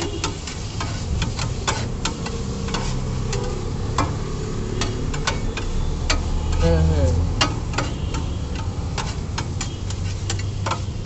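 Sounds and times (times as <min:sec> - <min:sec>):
metal spatula tapping on griddle: 0:00.0 - 0:04.2, 0:04.8 - 0:06.6, 0:07.4 - 0:11.0
food sizzling: 0:00.0 - 0:11.0.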